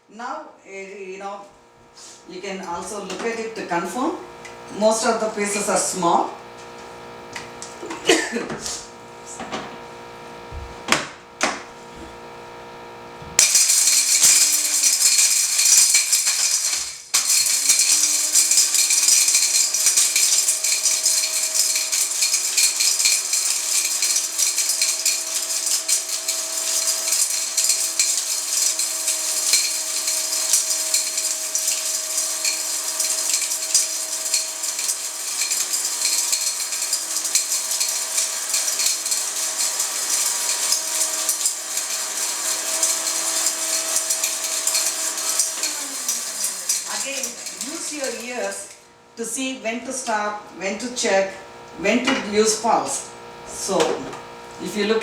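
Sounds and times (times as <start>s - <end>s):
mixer grinder grinding pieces: 2.0s - 11.8s, 12.9s - 50.2s.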